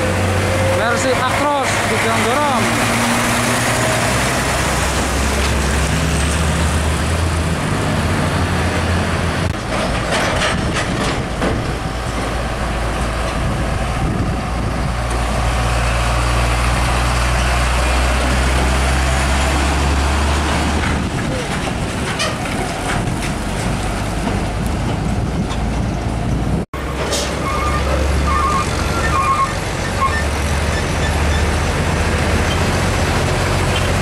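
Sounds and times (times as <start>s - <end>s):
diesel trucks passing: 0.0s - 34.0s.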